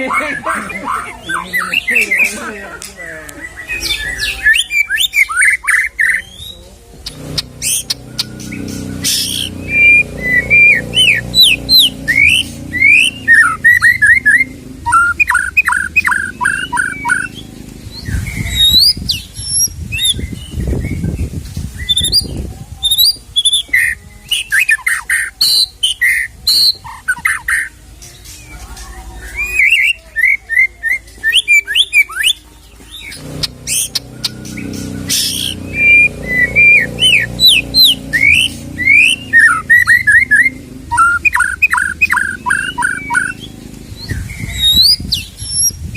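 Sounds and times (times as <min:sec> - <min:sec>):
songbird singing varied song: 0:00.0 - 0:45.9.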